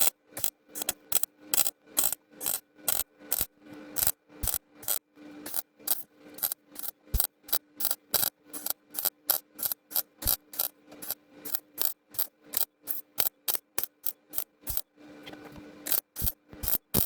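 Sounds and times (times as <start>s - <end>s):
sharp mechanical clicks: 0.0s - 14.9s, 15.8s - 17.0s.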